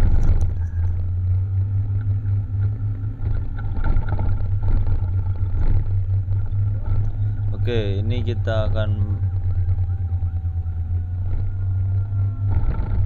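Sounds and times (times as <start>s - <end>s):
scooter engine and road noise: 0.0s - 13.0s.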